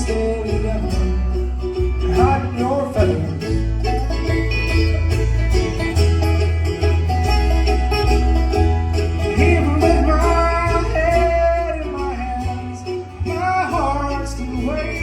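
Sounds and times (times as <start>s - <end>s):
acoustic guitar: 0.0s - 15.0s
banjo: 0.0s - 15.0s
sliding lead melody: 0.0s - 15.0s
walking bass line: 0.0s - 15.0s.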